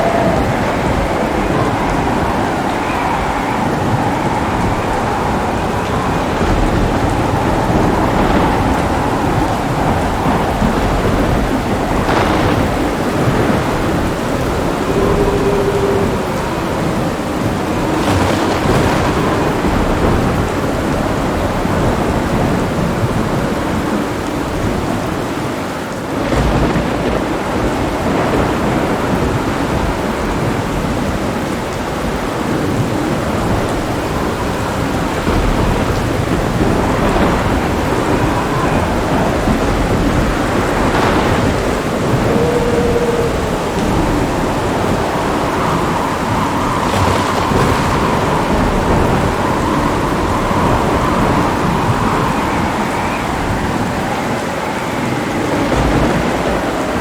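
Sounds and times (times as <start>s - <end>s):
thunder crack: 0.0s - 25.2s, 26.1s - 57.0s
heavy rain falling: 0.0s - 57.0s
rolling thunder: 0.0s - 57.0s.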